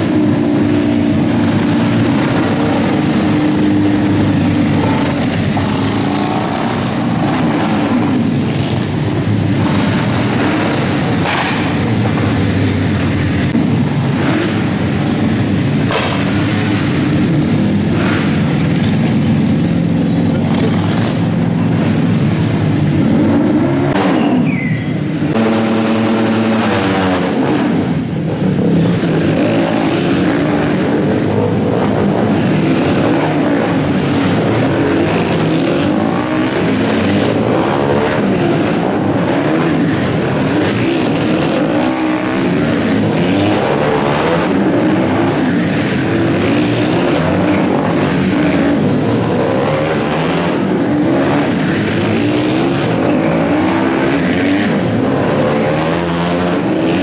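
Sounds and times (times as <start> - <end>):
small motorcycle engines revving: 0.0 - 57.0.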